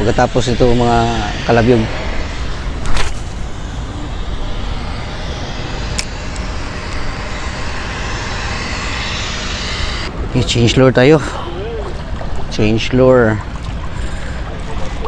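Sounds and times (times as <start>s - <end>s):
low rumble: 0.0s - 15.0s
rushing outdoor noise: 0.0s - 15.0s.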